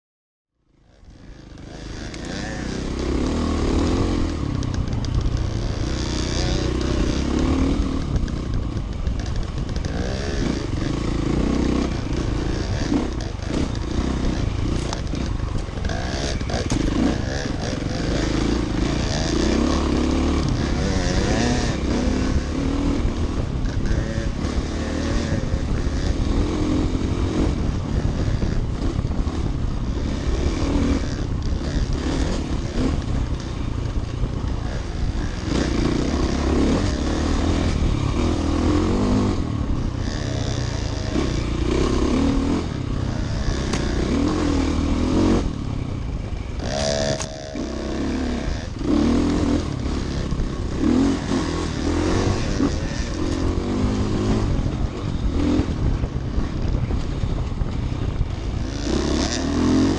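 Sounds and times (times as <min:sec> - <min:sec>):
dirt bike engine: 0:00.6 - 0:59.9
bike rattling over bumps: 0:00.8 - 0:59.9.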